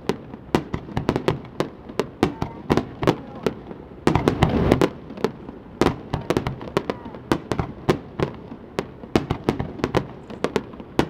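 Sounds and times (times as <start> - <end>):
fireworks bangs and cracks: 0.0 - 11.0.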